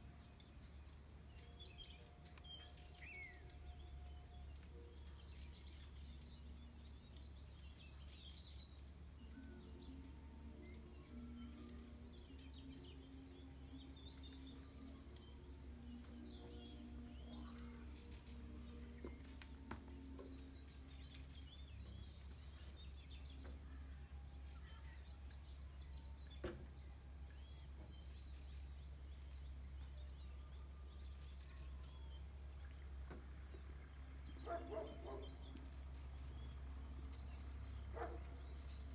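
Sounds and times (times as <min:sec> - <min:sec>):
low outdoor rumble: 0:00.0 - 0:38.9
songbirds chirping: 0:00.0 - 0:38.9.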